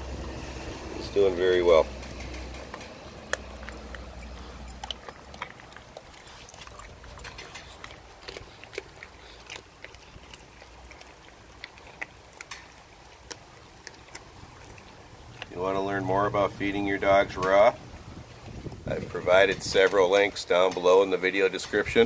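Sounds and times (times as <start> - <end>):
puppy chewing raw fish: 0.0 - 22.0.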